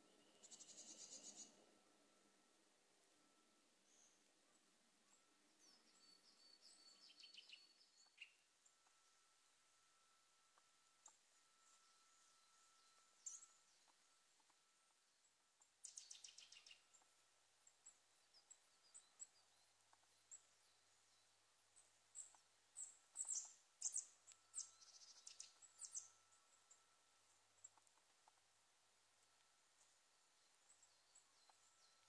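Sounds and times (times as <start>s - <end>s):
small birds calling: 0.0s - 1.6s, 3.3s - 9.1s, 9.9s - 14.6s, 15.2s - 28.5s, 29.2s - 32.0s
bird trill: 0.0s - 2.3s, 3.2s - 14.9s, 15.6s - 27.9s, 29.9s - 32.0s.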